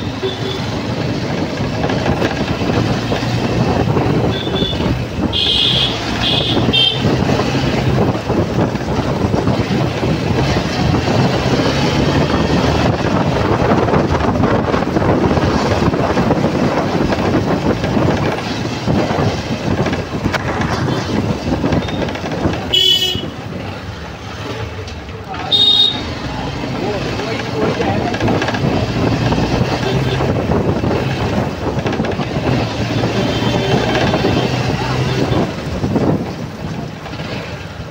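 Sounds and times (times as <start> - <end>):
motorcycle engine and road noise: 0.0 - 37.9.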